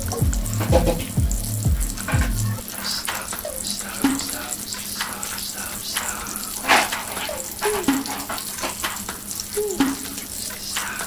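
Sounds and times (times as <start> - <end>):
oil popping: 0.0 - 11.0
fish sizzling in oil: 1.1 - 11.0.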